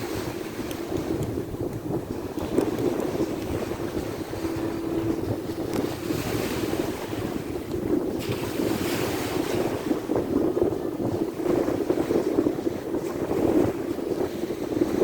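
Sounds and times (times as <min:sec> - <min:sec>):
sea waves washing onto shore: 0:00.0 - 0:15.0
wind buffeting microphone: 0:00.0 - 0:15.0.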